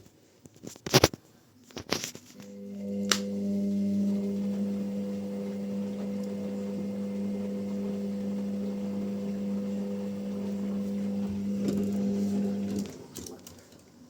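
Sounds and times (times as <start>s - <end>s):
washing machine humming: 2.4s - 13.8s.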